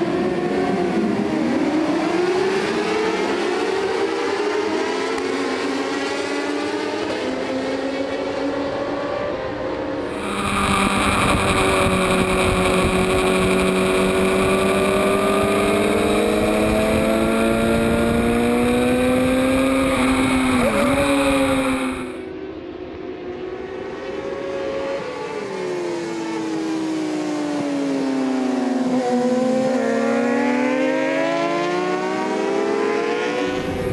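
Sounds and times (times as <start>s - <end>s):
racing motorcycle engine revving: 0.0s - 22.2s, 27.6s - 33.9s.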